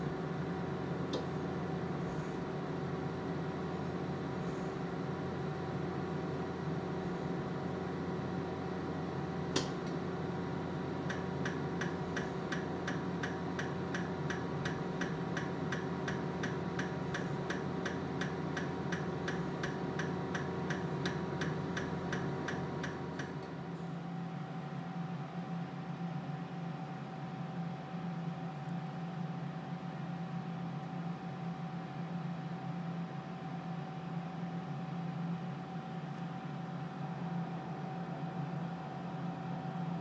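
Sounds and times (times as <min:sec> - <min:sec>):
cooling fan hum: 0:00.0 - 0:40.0.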